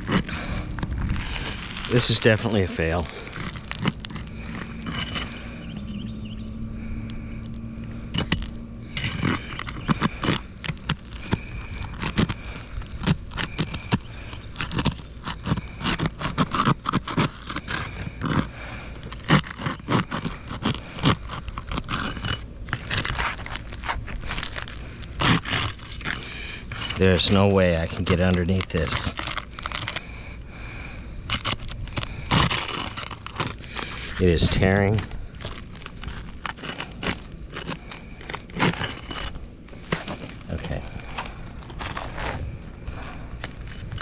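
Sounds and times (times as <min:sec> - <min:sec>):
tool scraping roof shingle: 0:00.0 - 0:05.9, 0:06.8 - 0:44.0.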